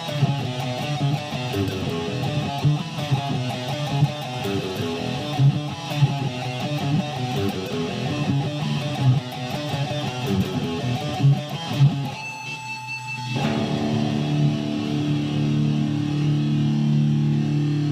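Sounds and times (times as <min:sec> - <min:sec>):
guitar music: 0:00.0 - 0:17.9.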